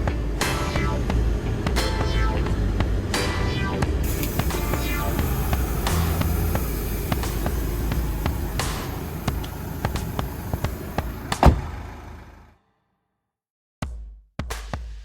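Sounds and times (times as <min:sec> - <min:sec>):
car engine running: 0:00.0 - 0:12.6.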